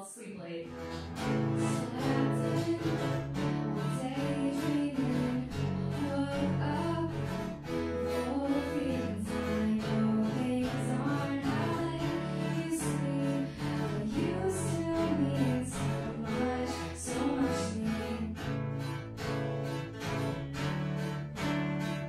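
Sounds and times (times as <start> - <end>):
guitar: 0.6 - 22.0
steady bass line: 0.7 - 22.0.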